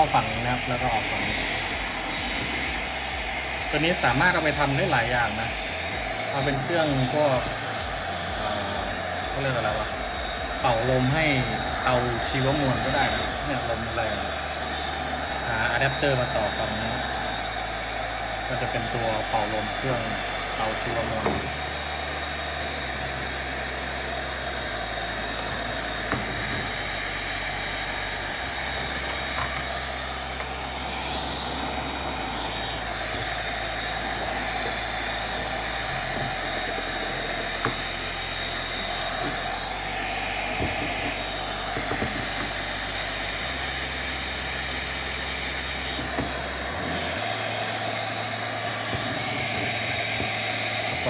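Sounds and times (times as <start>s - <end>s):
blower fan running: 0.0s - 51.0s.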